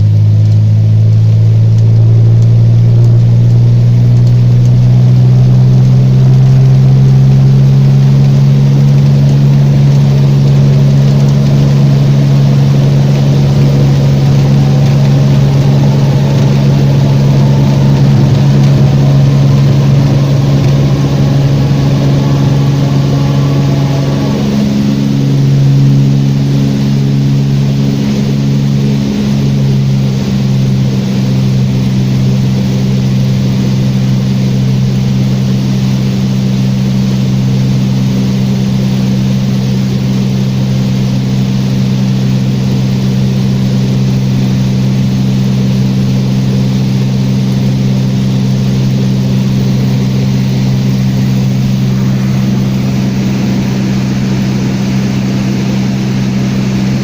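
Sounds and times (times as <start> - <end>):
air noise: 0.0 - 57.0
propeller airplane engine droning: 0.0 - 57.0.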